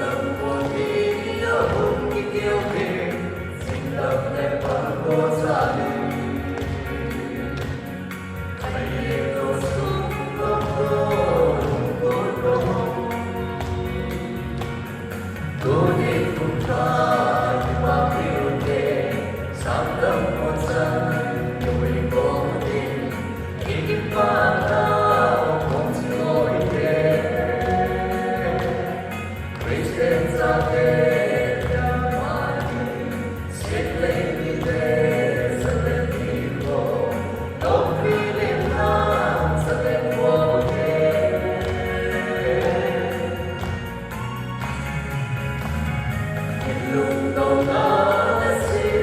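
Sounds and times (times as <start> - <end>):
group of voices singing: 0.0 - 44.7, 46.2 - 49.0
backing music with bass: 0.0 - 49.0.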